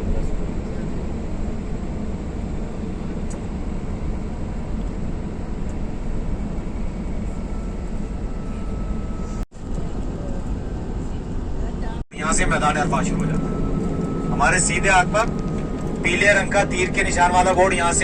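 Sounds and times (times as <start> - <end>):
road and engine noise inside bus: 0.0 - 18.0.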